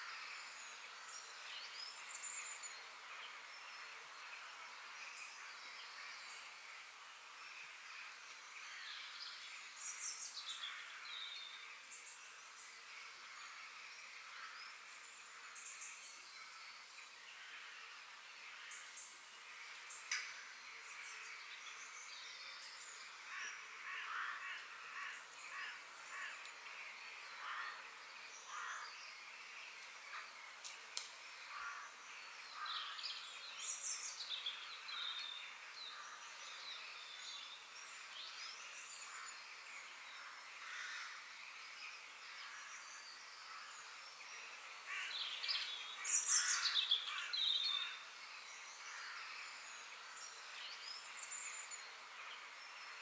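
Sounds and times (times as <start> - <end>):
birds chirping: 7.5 - 53.0.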